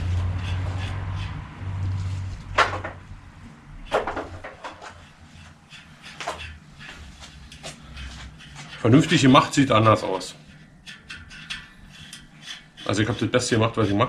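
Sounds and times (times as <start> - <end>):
low hum: 0.0 - 12.6
bicycle wheel clacking against bike: 0.0 - 14.0.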